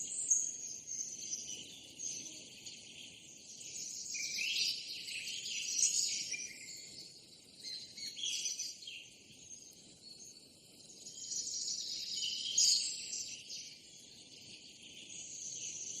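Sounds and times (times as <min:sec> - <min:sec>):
insect hum: 0:00.0 - 0:16.0.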